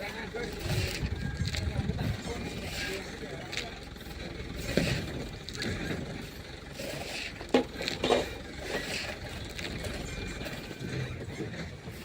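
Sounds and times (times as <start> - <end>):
rough background noise: 0.0 - 12.0.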